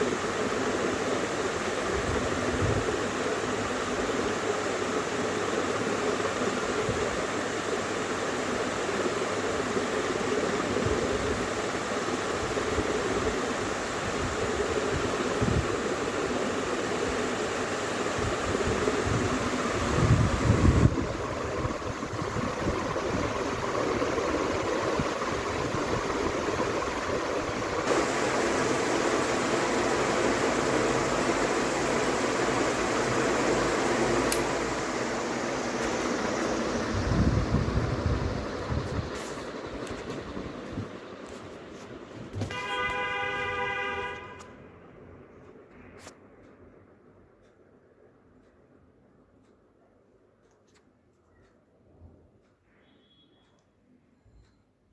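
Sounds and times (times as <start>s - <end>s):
ceiling fan air rush: 0.0s - 50.4s.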